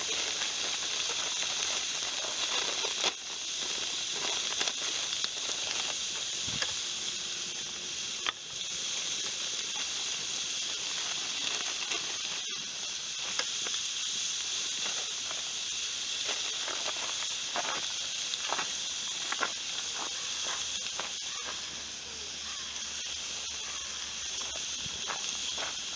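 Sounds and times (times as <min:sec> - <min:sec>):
fire crackles and pops: 0:00.0 - 0:21.7, 0:24.0 - 0:25.9
campfire sizzling hiss: 0:00.0 - 0:25.9.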